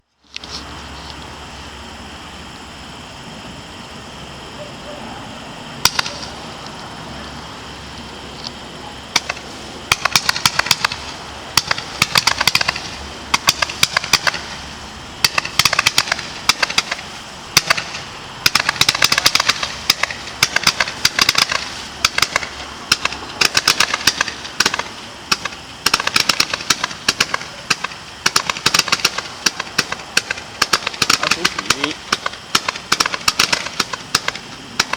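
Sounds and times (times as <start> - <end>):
firework crackling: 0.0 - 34.9.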